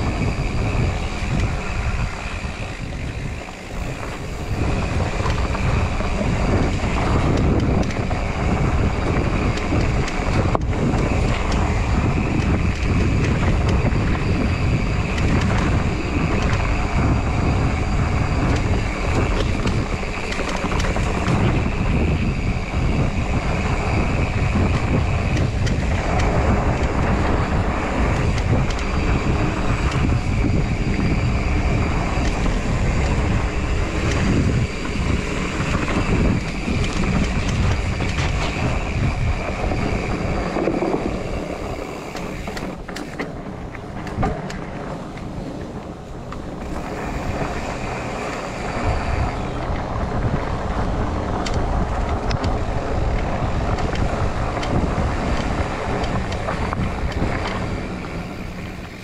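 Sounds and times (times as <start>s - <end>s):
bike rattling over rocks: 0.0s - 59.0s
tyres rumbling on dirt: 0.0s - 59.0s
wind buffeting microphone: 0.0s - 59.0s.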